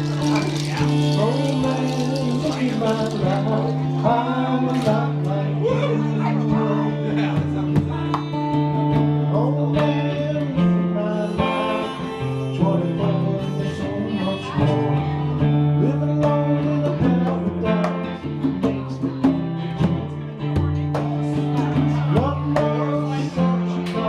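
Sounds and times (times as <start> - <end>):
person singing: 0.0 - 19.5, 20.7 - 24.0
guitar playing chords: 0.0 - 24.0.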